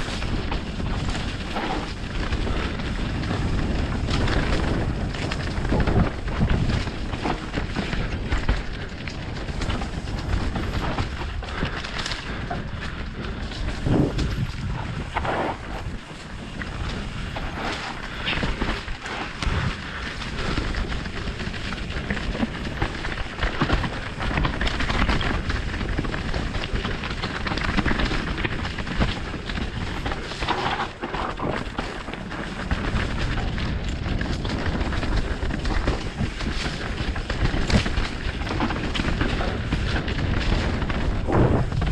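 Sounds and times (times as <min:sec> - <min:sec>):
bike rattling over bumps: 0:00.0 - 0:41.9
wind and tyre noise: 0:00.0 - 0:41.9.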